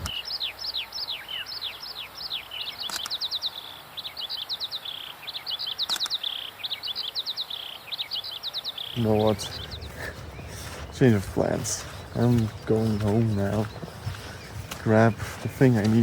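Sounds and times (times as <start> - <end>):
bird trills: 0.0 - 16.0
songbirds singing: 0.0 - 16.0.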